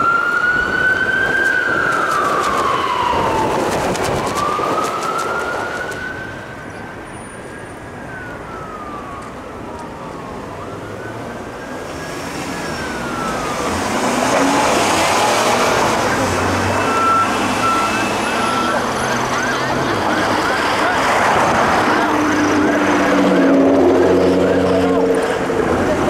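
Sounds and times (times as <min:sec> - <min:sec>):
emergency vehicle siren wailing: 0:00.0 - 0:26.0.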